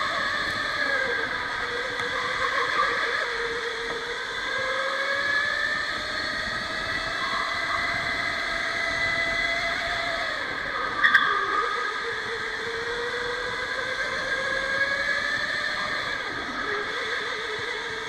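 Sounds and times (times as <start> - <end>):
electric motor whining: 0.0 - 18.0
steady rush of noise: 0.0 - 18.0.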